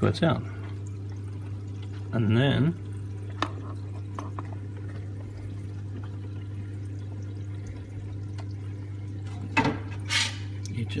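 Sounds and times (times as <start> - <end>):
steady low hum: 0.0 - 11.0
water pouring and trickling: 0.0 - 11.0.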